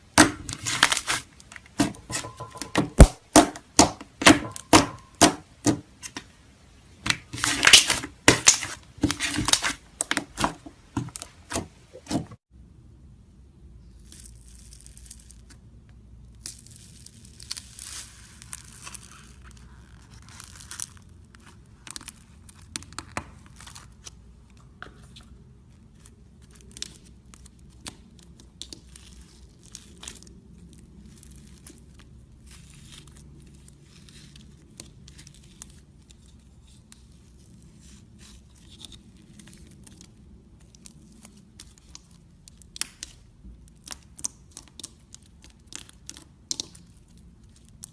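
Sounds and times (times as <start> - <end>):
slime squishing and crackling: 0.0 - 6.4, 7.0 - 12.4, 16.3 - 47.9.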